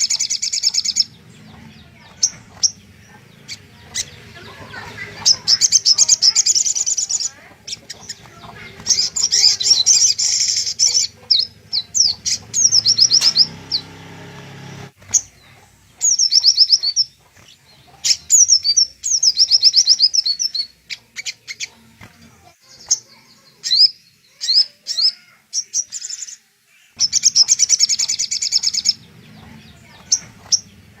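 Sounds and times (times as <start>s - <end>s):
bird chirps and trills: 0.0s - 31.0s.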